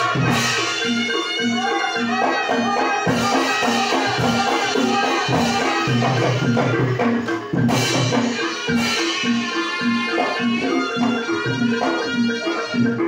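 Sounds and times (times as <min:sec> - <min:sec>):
drum strokes: 0:00.0 - 0:13.0
flute playing: 0:00.0 - 0:13.0
tuned percussion pattern: 0:00.0 - 0:13.0.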